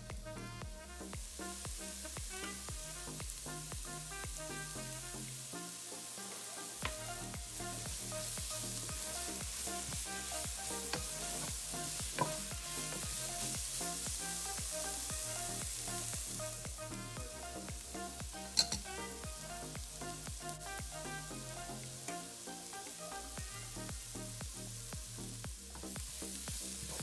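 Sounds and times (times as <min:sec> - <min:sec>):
background music with beat: 0:00.0 - 0:27.0
vegetables sizzling in a pot: 0:00.8 - 0:27.0.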